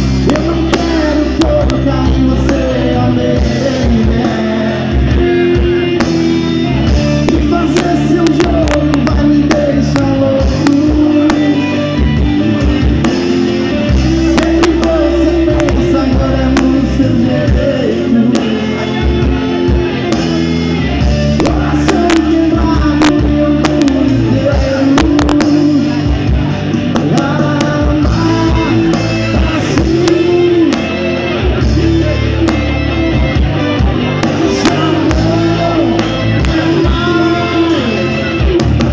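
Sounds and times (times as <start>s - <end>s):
live band playing: 0.0s - 38.9s
person singing: 0.0s - 38.9s.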